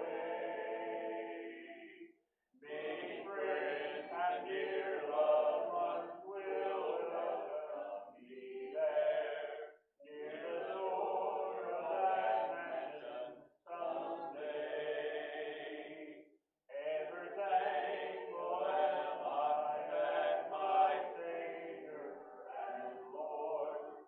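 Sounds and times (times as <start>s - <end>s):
congregation singing a hymn: 0.0s - 24.0s.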